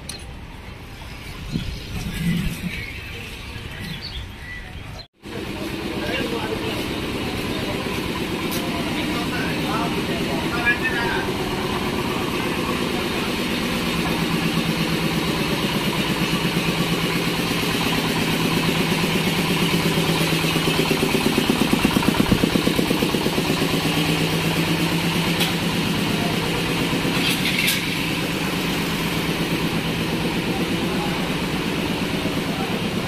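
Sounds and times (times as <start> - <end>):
engine idling: 5.2 - 33.0.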